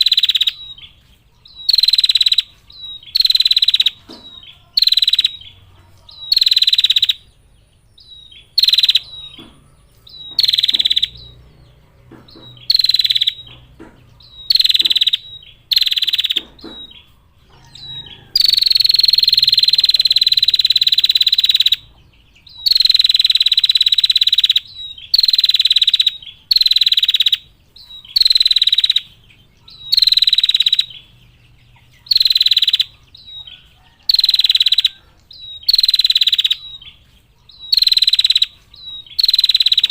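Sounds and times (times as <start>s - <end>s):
bird rapid high trilling call: 0.0s - 7.4s, 8.0s - 11.5s, 12.3s - 31.1s, 31.9s - 39.9s.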